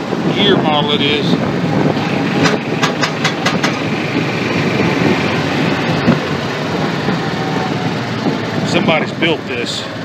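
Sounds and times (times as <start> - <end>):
utility vehicle engine running: 0.0 - 10.0
clattery vehicle rattle: 1.7 - 10.0.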